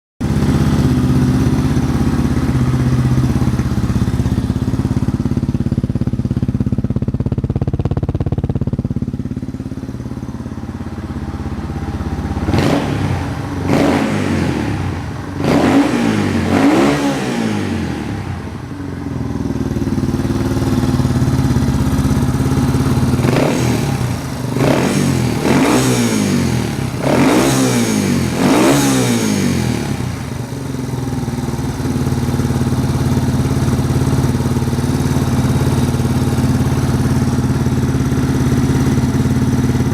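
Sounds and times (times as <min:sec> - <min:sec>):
motorcycle engine idling and revving: 0:00.2 - 0:39.9.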